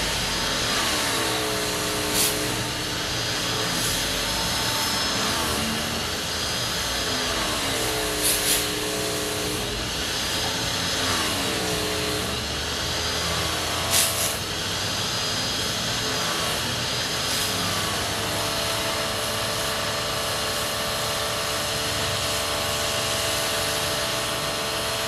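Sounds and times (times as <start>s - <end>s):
leaf blower running: 0.0s - 25.0s
loud noise bursts: 0.0s - 25.0s.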